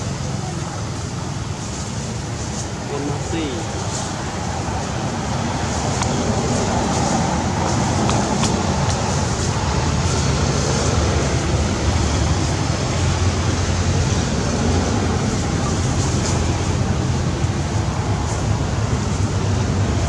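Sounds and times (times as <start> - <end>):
loud rumbling: 0.0 - 20.0.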